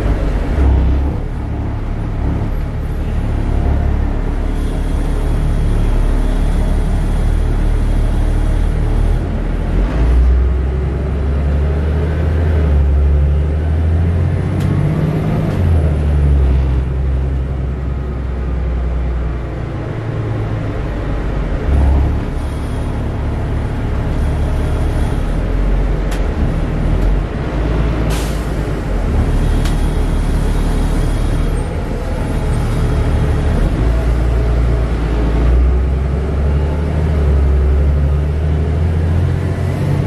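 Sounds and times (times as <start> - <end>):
road and cabin rattle: 0.0 - 11.0, 13.6 - 40.0
bus engine under load: 0.0 - 40.0.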